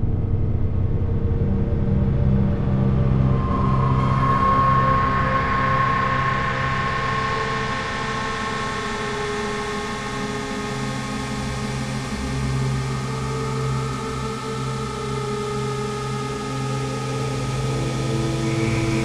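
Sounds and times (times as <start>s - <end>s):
dark ambient electronic drone: 0.0s - 19.0s.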